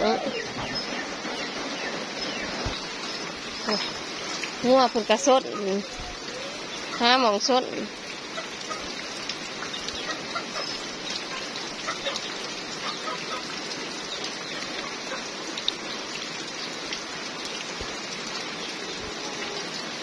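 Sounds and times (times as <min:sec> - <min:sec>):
raindrop ticks: 0:00.0 - 0:19.2
steady rain hiss: 0:00.0 - 0:20.0.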